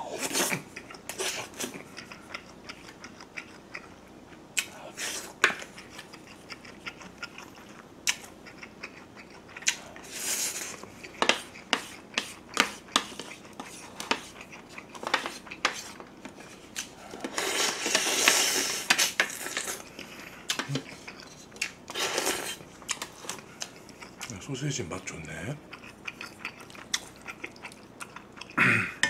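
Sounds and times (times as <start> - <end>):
chewing: 0.2 - 24.5, 25.1 - 28.6.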